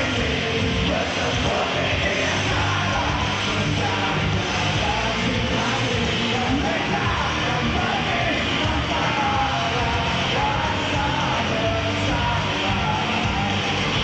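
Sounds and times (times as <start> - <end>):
person yelling singing: 0.0 - 14.0
rock band playing live: 0.0 - 14.0.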